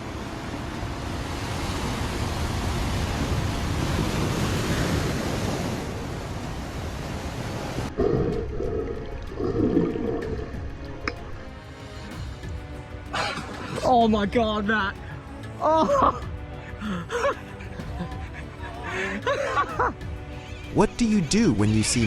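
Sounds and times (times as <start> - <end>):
sea rushing: 0.0 - 22.0
wind: 0.0 - 22.0.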